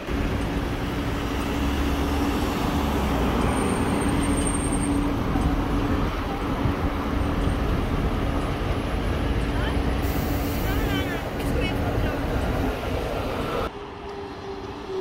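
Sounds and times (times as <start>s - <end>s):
trolleybus hum: 0.0s - 15.0s
tyre and road noise: 0.0s - 15.0s.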